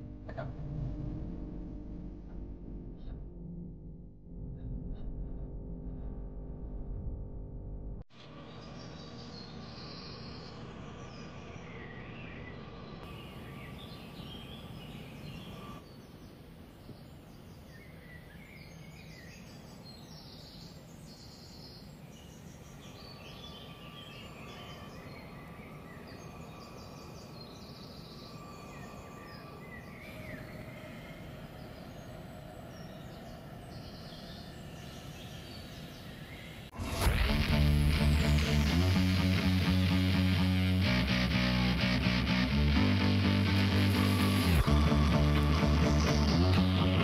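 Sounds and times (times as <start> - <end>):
birds chirping: 8.2 - 47.0.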